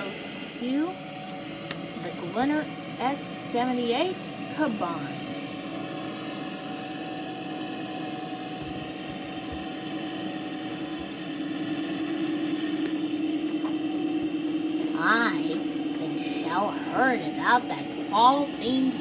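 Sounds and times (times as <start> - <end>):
combine harvester droning: 0.0 - 19.0.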